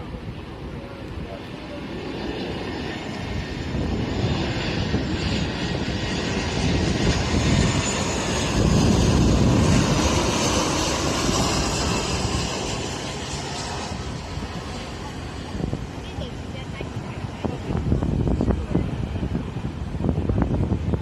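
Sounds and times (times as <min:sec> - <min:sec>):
jet engines passing: 0:00.0 - 0:21.0.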